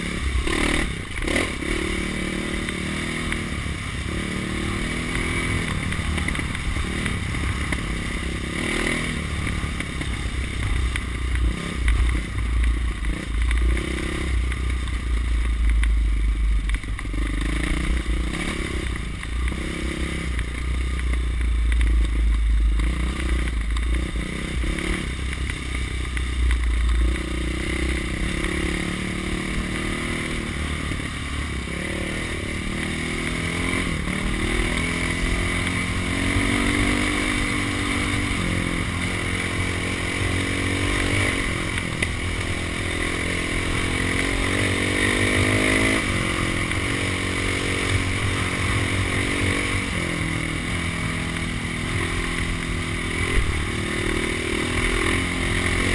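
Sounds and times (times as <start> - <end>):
dirt bike engine revving: 0.0 - 15.3, 17.0 - 55.9.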